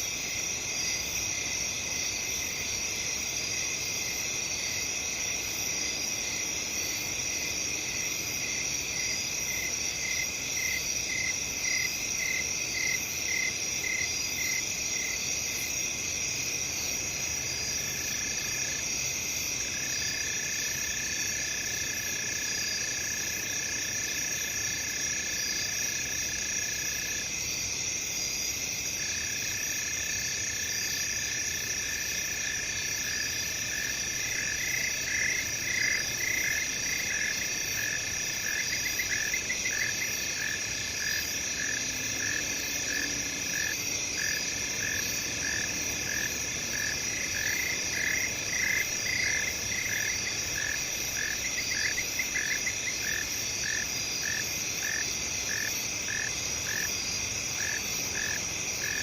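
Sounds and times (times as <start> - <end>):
insects trilling: 0.0 - 59.0
lower continuous insect trill: 0.0 - 59.0.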